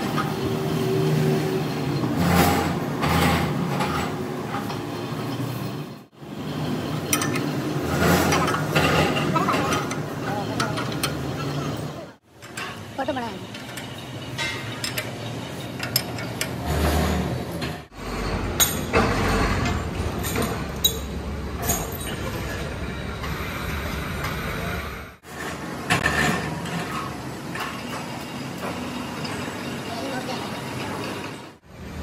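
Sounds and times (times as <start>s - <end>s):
workshop rumble: 0.0s - 32.0s.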